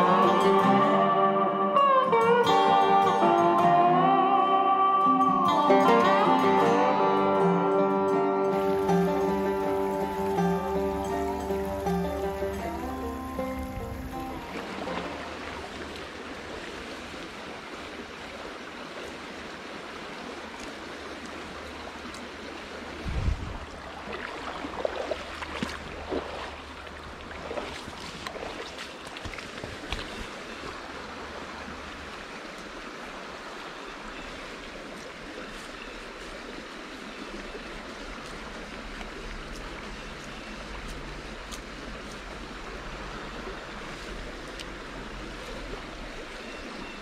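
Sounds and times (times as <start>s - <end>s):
creek rushing: 0.0s - 47.0s.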